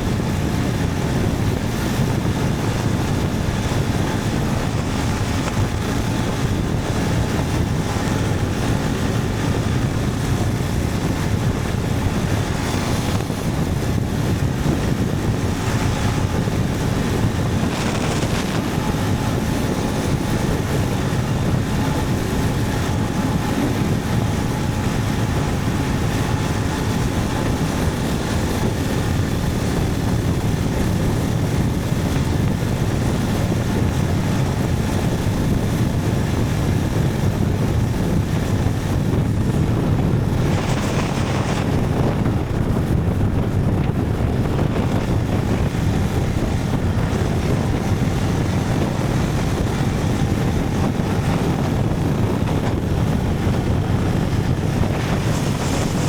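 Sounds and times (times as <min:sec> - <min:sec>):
motorcycle engine drone: 0:00.0 - 0:56.0
wind noise on microphone: 0:00.0 - 0:56.0.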